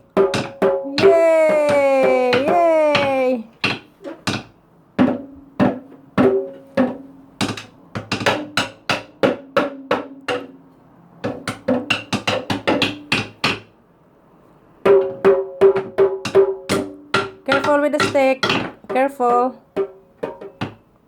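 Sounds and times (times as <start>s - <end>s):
stick hitting toy percussion: 0.0s - 10.6s, 11.2s - 13.7s, 14.9s - 20.9s.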